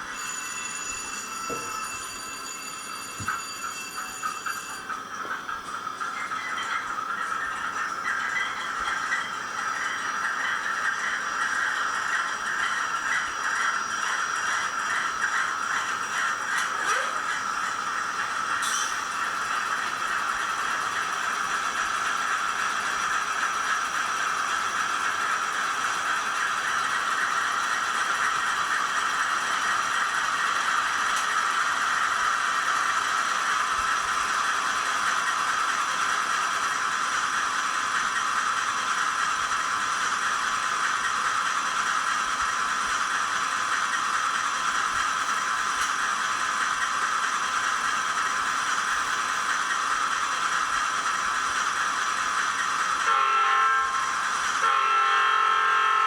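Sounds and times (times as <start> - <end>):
locomotive engine sound from small speaker: 0.0 - 56.0.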